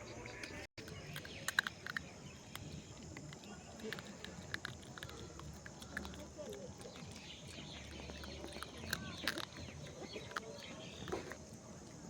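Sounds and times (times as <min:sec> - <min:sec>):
lip-smacking clicks: 0:00.4 - 0:11.4
wet chewing: 0:00.4 - 0:12.0.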